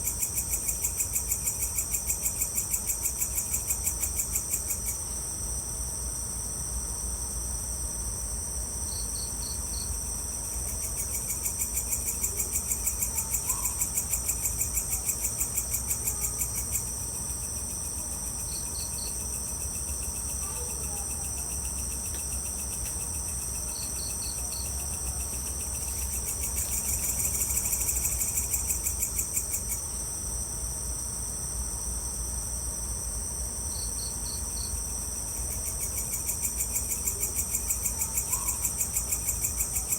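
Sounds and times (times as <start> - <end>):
insect chirps: 0.0 - 7.6, 8.3 - 39.9
crickets and insects trilling: 0.0 - 39.9.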